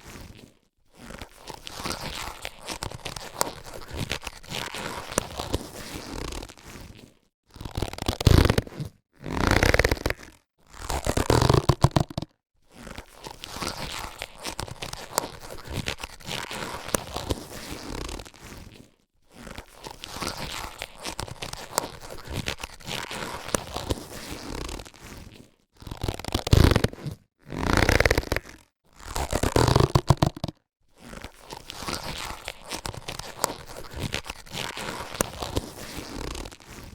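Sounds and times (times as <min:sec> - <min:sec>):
latex glove bursting: 0:00.0 - 0:36.9
latex rubbing and crinkling: 0:00.0 - 0:36.9.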